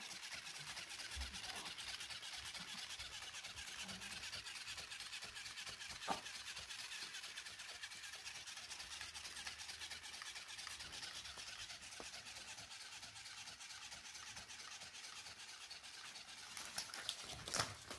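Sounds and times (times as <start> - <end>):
fast fine ticking of flapping: 0.0 - 17.9
toy motor whirring: 0.0 - 17.9.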